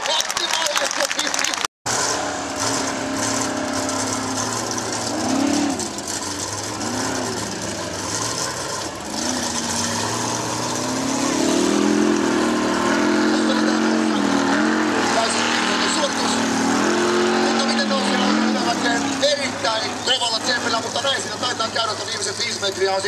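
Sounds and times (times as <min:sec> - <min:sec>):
buggy engine revving: 0:00.0 - 0:23.0.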